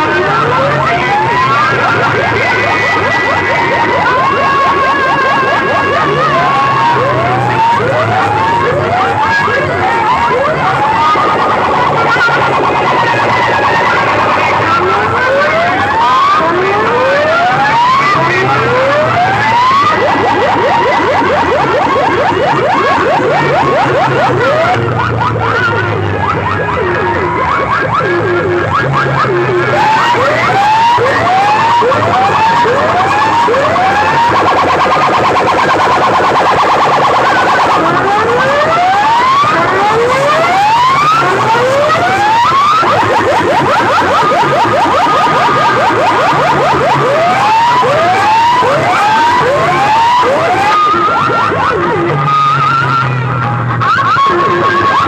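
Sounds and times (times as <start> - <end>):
electronic siren wailing: 0.0 - 55.0.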